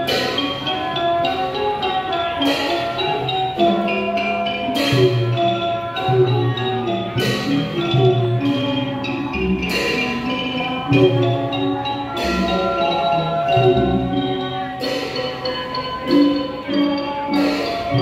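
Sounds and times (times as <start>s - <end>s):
gongs and xylophones melody: 0.0s - 18.0s.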